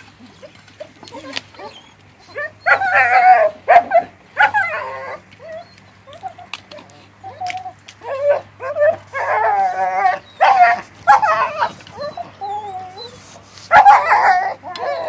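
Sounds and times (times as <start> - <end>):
puppies yelping and whining: 0.0 - 15.0.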